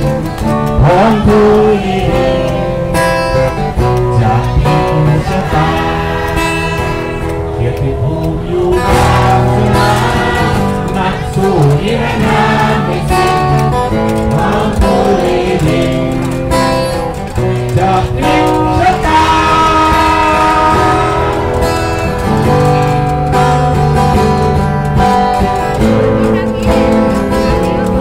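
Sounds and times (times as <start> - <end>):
group of people singing: 0.0 - 24.7
acoustic guitars strummed: 0.0 - 28.0.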